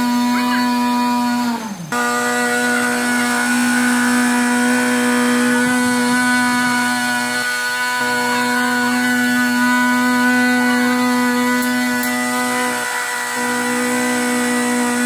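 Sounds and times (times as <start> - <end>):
small gas engine droning: 0.0 - 15.0.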